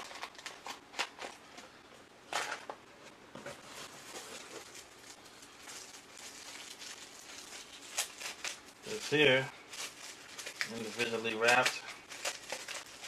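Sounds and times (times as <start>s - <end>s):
plastic packaging crinkling: 0.0s - 1.6s, 3.6s - 13.0s.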